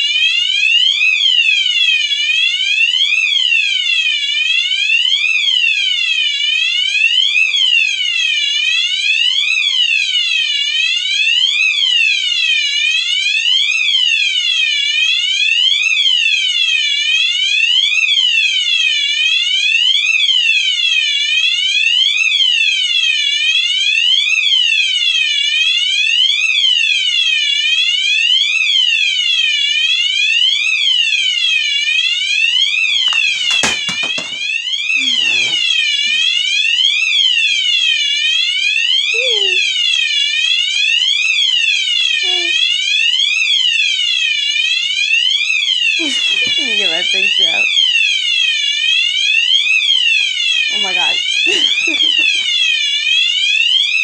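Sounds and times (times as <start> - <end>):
alarm clock siren: 0.0 - 54.0.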